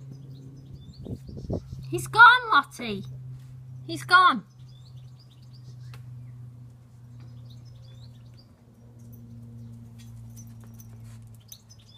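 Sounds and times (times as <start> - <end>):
birds chirping: 0.0 - 11.9
steady low hum: 0.0 - 11.9.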